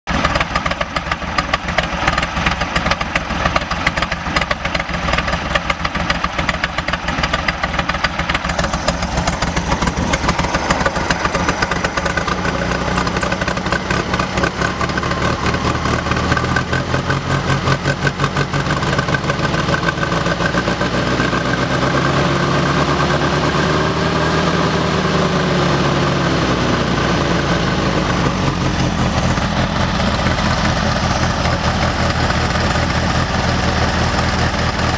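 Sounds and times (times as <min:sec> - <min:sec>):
engine idling roughly with popping: 0:00.0 - 0:34.9.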